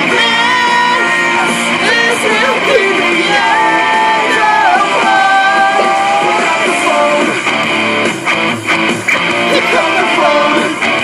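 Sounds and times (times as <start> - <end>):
rock song with guitar and vocals: 0.0 - 11.0.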